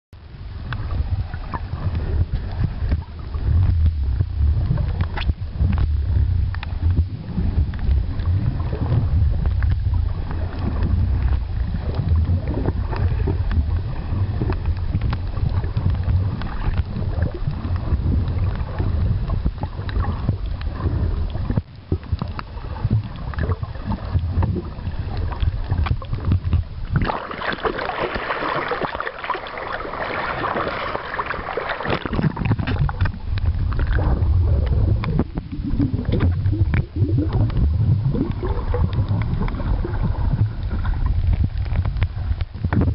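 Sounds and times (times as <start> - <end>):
underwater water rumble: 0.1 - 42.9.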